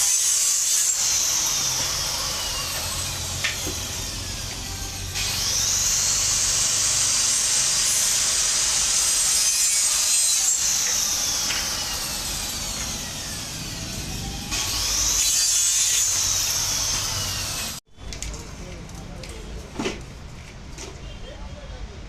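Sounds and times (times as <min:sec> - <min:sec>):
electric power saw whining: 0:00.0 - 0:17.8.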